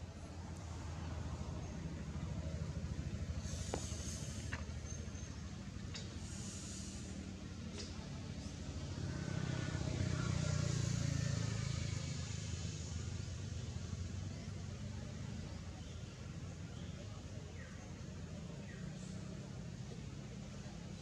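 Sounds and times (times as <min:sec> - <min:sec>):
distant vehicle engine rumble: 0:00.0 - 0:21.0.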